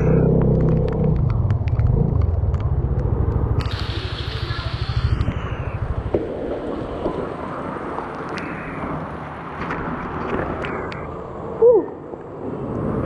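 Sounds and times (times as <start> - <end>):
motor scooter engine rumble: 0.0 - 11.2
wind noise: 0.0 - 13.0.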